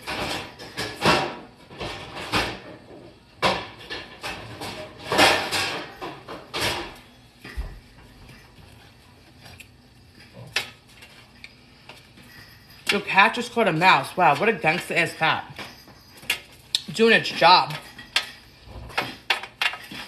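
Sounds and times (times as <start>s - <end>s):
kitchen knocks and scrapes: 0.0s - 8.5s, 12.2s - 20.0s.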